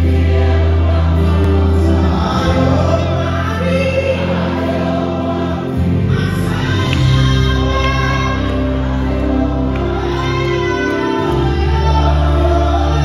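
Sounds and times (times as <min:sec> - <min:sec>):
sustained low chords: 0:00.0 - 0:13.0
voices singing gospel: 0:00.0 - 0:13.0.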